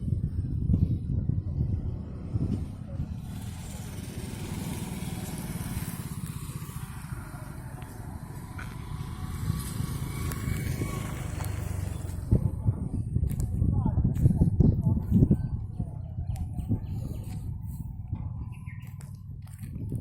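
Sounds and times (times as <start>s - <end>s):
engine running with low throb: 0.0s - 20.0s.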